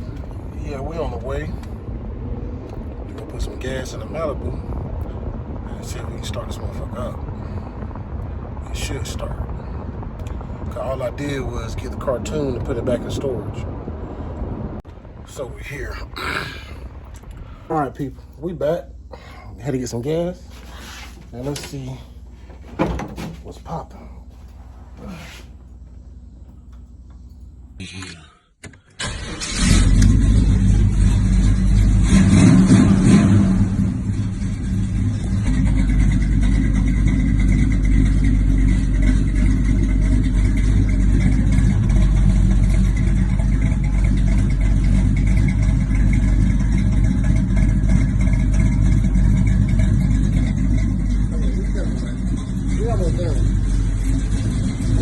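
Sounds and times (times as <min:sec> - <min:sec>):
car engine starting and idling: 0:00.0 - 0:24.7, 0:28.6 - 0:55.0.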